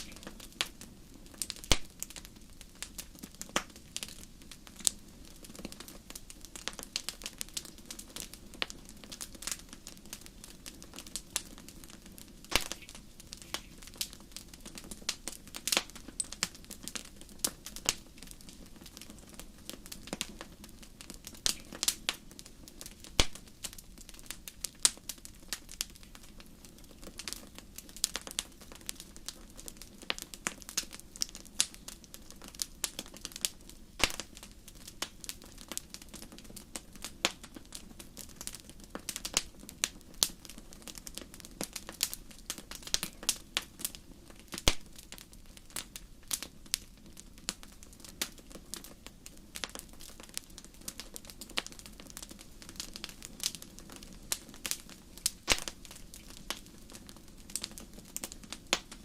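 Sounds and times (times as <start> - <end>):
wood fire pops and snaps: 0.0 - 59.0.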